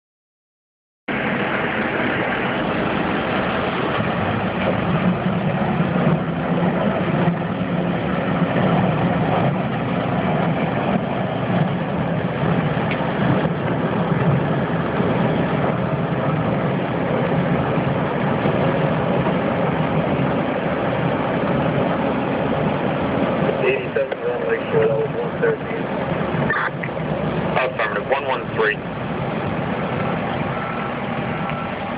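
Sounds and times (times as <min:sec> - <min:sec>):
heavy engine droning: 0:01.1 - 0:31.9.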